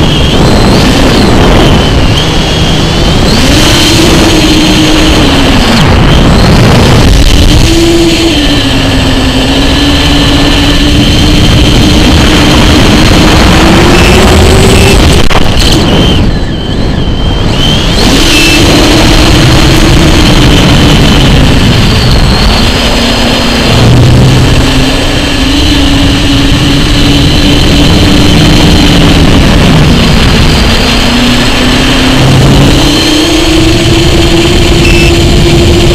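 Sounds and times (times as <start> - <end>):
propeller motor hum: 0.0 - 35.9
wind rush on microphone: 0.0 - 35.9.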